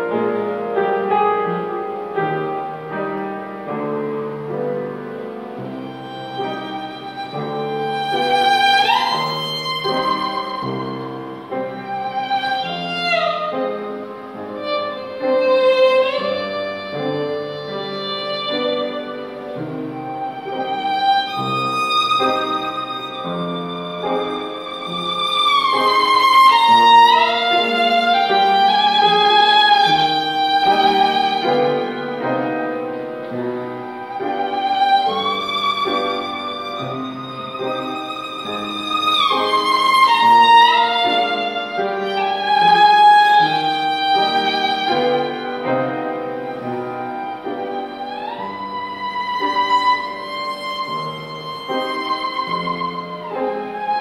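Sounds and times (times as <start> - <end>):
solo violin melody: 0.0 - 54.0.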